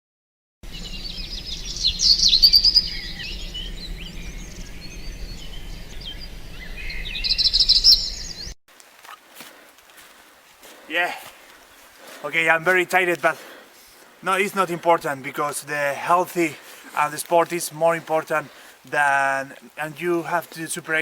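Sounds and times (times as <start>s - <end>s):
birds singing and chirping: 0.6s - 8.6s, 10.6s - 21.0s.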